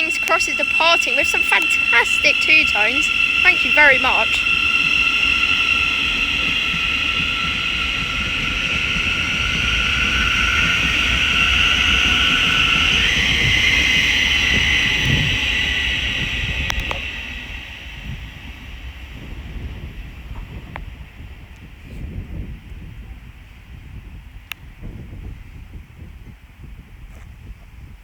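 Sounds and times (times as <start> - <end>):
electric train traction whine: 0.0 - 25.6
train low rumble: 0.0 - 28.0.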